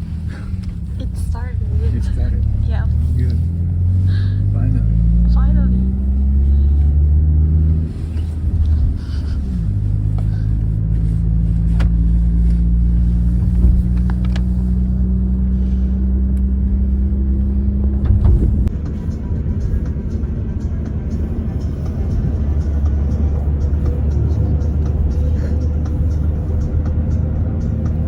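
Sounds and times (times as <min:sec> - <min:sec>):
train running rumble: 0:00.0 - 0:06.9, 0:07.6 - 0:28.0.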